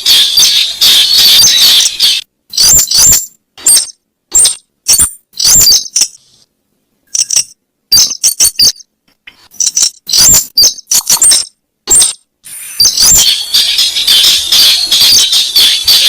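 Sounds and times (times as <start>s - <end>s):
high-pitched bird calls: 0.0s - 6.4s, 7.1s - 8.9s, 9.6s - 16.0s.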